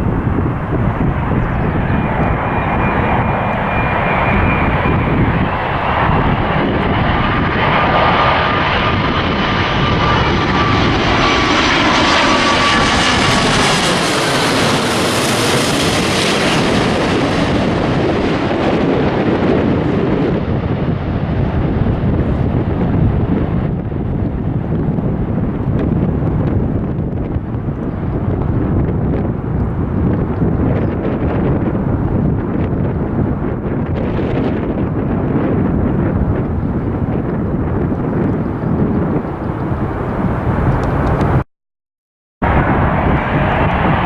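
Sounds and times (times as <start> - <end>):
jet airliner flying past: 0.0 - 41.4, 42.4 - 44.0
wind rumble on microphone: 0.0 - 41.4, 42.4 - 44.0.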